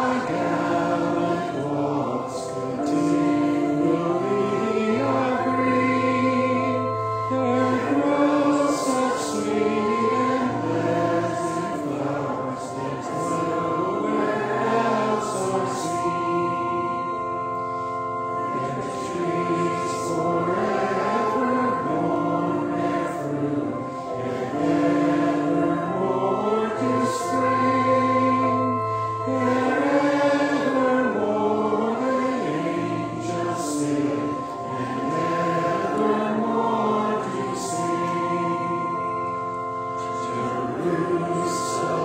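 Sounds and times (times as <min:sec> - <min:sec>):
congregation singing a hymn: 0:00.0 - 0:42.0.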